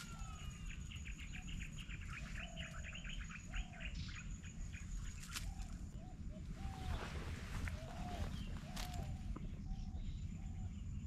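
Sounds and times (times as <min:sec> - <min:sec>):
birds chirping: 0:00.0 - 0:11.0
high insect drone: 0:00.0 - 0:11.0
lower bird calls: 0:00.0 - 0:11.0.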